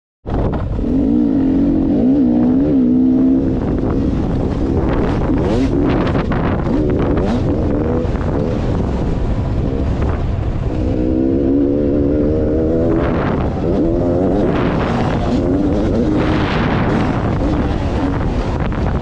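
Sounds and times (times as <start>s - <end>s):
dirt bike engine revving: 0.6s - 19.0s.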